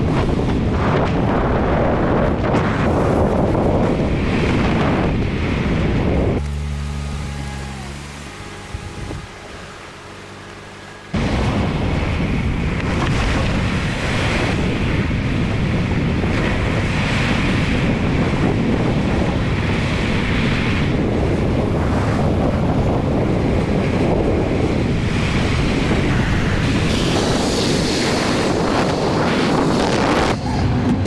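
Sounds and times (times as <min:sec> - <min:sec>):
wind buffeting microphone: 0:00.0 - 0:10.2, 0:11.0 - 0:31.0
car wind and road noise: 0:00.0 - 0:31.0.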